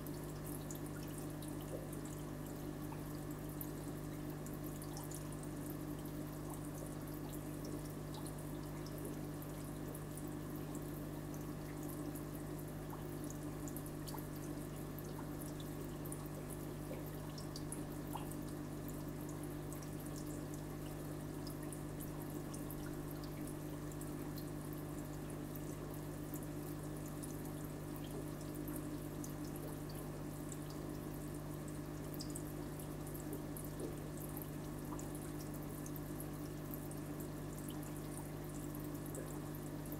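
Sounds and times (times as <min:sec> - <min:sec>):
pump motor low hum: 0:00.0 - 0:39.9
water trickling: 0:00.0 - 0:39.9.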